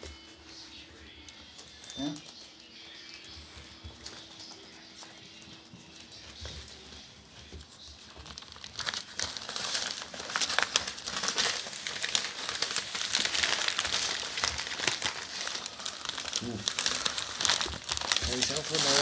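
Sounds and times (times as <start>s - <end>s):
newspaper crinkling under paws: 0.0s - 19.0s.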